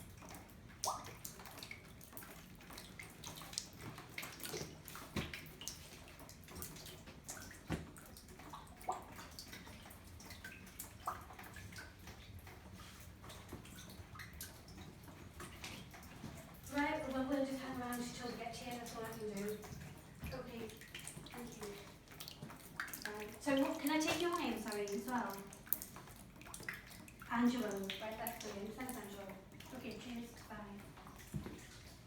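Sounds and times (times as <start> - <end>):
water drips and splashes: 0.0 - 32.0
water trickling: 0.0 - 32.0.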